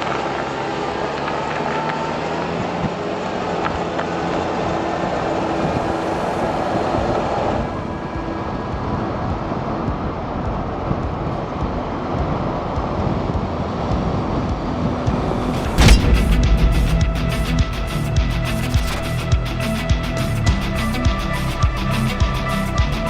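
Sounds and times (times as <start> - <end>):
car engine rumble: 0.0 - 22.7.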